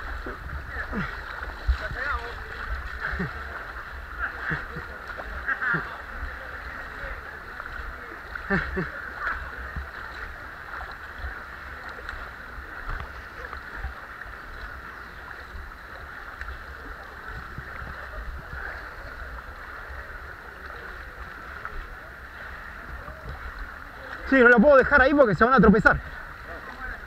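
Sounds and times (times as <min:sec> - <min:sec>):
water sloshing around legs: 0:00.0 - 0:27.0.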